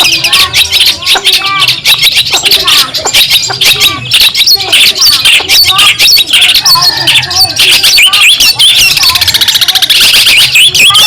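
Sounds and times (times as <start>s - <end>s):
shrike singing harsh chatter: 0.0s - 11.0s.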